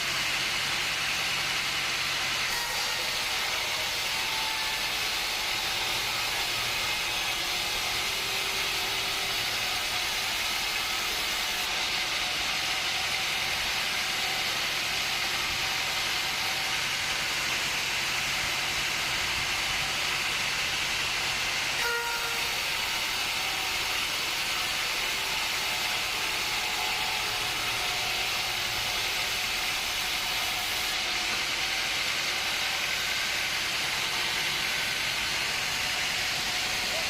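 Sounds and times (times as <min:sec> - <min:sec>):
woodworking machinery hissing: 0:00.0 - 0:37.0.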